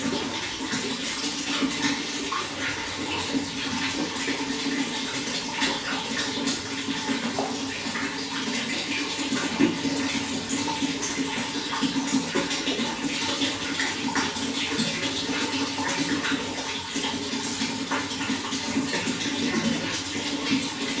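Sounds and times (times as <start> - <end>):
running water splashing: 0.0 - 21.0.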